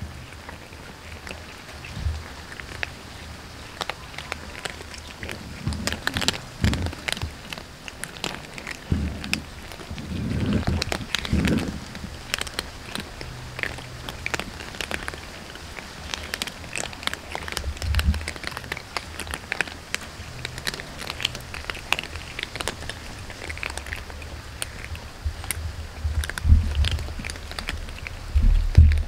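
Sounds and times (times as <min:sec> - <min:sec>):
cats crunching dry kibble: 0:00.0 - 0:29.0.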